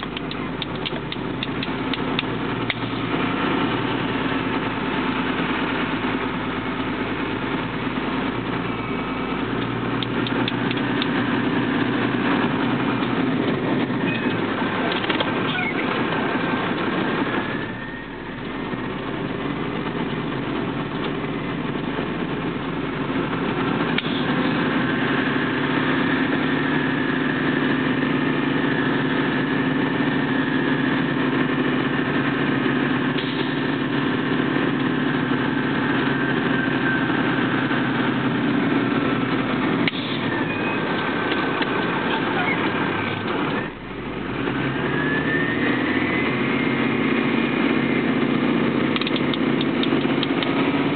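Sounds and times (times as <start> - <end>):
vehicle engine drone with whine: 0.0 - 50.9.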